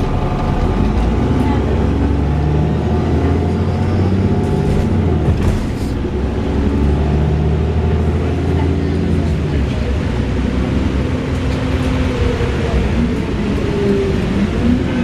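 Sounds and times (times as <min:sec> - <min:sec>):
bus diesel engine droning: 0:00.0 - 0:15.0.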